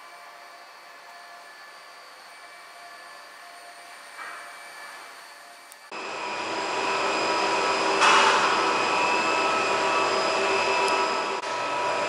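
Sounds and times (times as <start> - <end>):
cable car machinery humming: 0.0 - 12.0.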